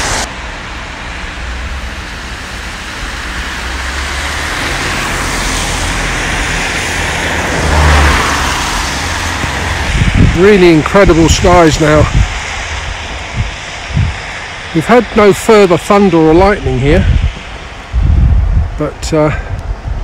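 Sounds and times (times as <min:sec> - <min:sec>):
low rumble: 0:00.0 - 0:20.0
vehicle passing on road: 0:00.0 - 0:20.0.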